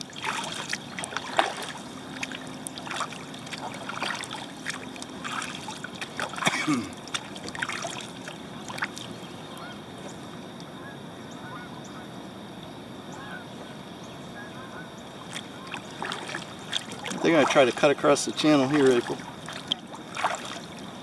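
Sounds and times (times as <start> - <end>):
waterfowl honking: 0.0 - 12.2, 13.1 - 20.9.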